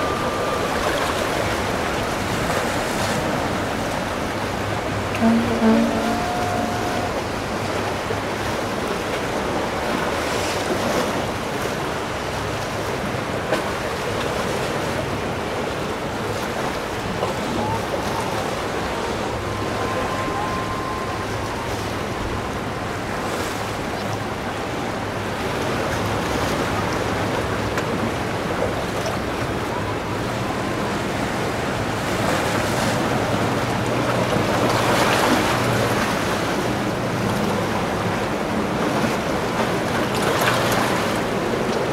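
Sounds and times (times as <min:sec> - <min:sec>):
boat engine hum: 0:00.0 - 0:41.9
waves and surf rushing: 0:00.0 - 0:41.9.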